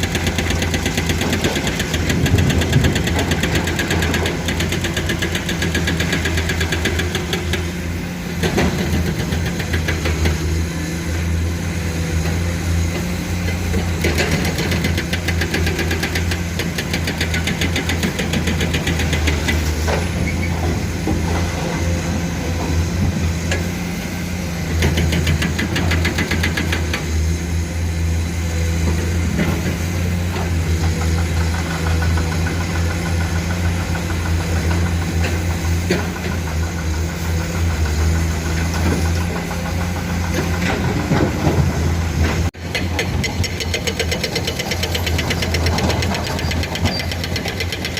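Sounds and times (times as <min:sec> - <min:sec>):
excavator diesel engines running: 0:00.0 - 0:47.9.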